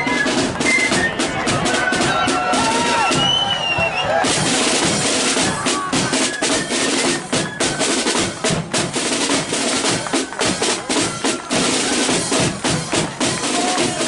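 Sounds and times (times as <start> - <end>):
snare drums rolling beat: 0.0 - 14.0.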